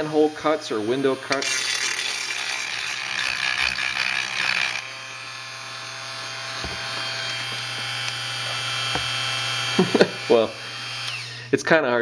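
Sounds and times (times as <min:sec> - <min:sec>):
rotary tool grinding sheet metal: 0:00.0 - 0:11.4
motor whine and hum: 0:00.0 - 0:11.5.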